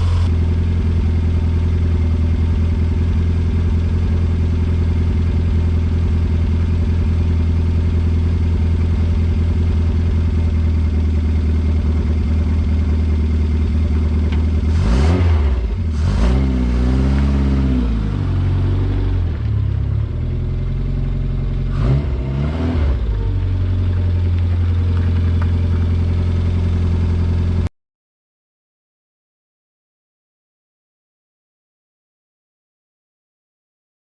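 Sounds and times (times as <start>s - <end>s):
car engine idling and revving: 0.0s - 27.7s.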